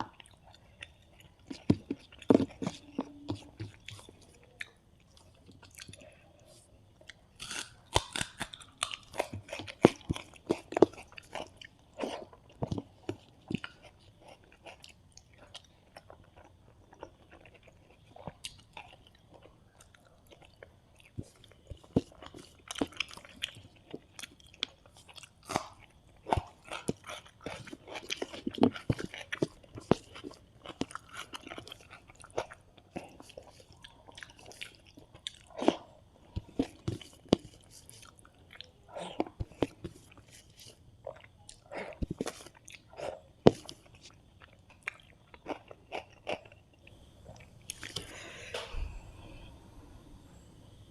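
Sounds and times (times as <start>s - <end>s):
close chewing with crunches: 0.0s - 48.2s.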